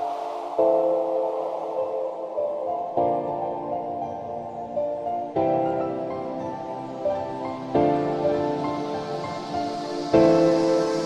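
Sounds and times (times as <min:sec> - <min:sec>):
soft sustained music chords: 0:00.0 - 0:11.0.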